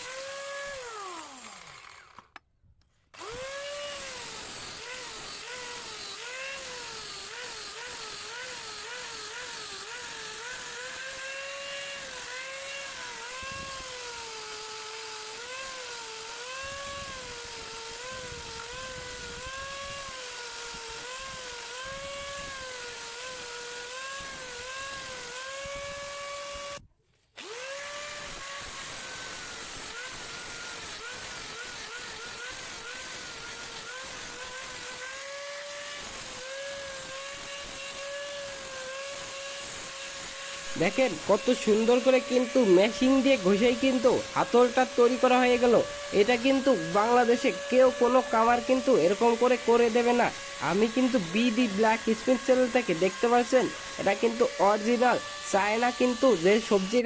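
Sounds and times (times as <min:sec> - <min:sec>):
electric grinder whining on wood: 0:00.0 - 0:02.4, 0:03.1 - 0:26.8, 0:27.4 - 0:57.0.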